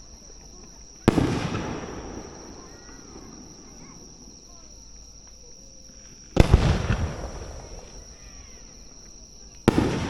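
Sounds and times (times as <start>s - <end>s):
fireworks booming and crackling: 0.0s - 10.0s.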